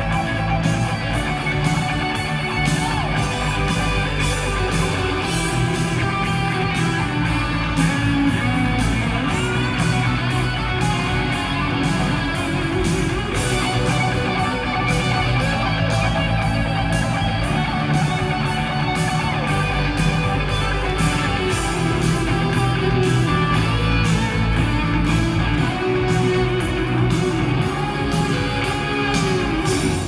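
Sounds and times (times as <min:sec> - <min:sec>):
rock music with guitar: 0:00.0 - 0:30.0.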